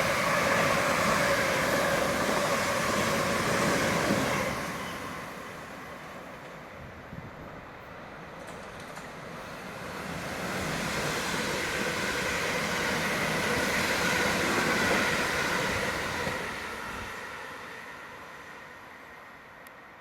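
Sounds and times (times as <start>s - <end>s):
train passing on rails: 0.0s - 20.0s.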